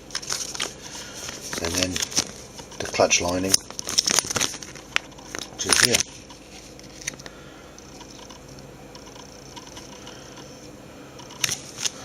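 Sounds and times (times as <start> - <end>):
handling small parts: 0.0 - 10.6.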